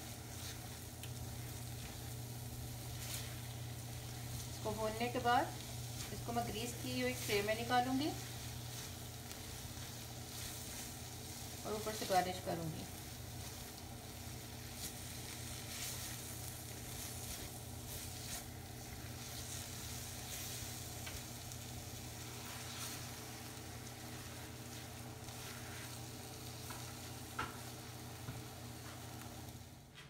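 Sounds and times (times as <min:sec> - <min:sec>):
mixture sizzling in a wok: 0:00.0 - 0:30.0
steady low hum: 0:00.0 - 0:30.0.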